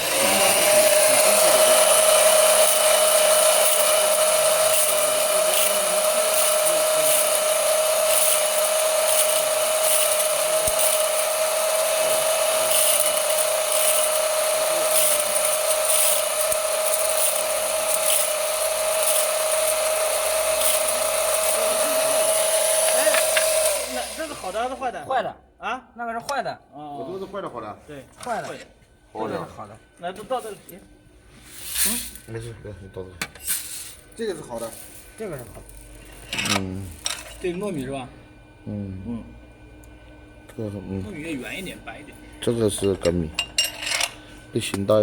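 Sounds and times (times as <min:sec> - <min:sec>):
machine whining and hissing: 0:00.0 - 0:25.0, 0:29.1 - 0:45.0.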